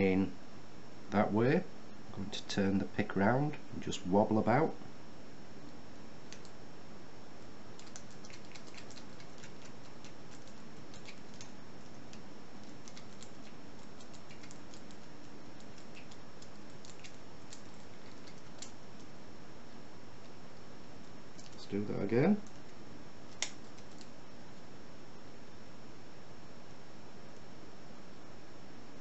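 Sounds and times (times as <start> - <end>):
background hiss: 0.0 - 29.0.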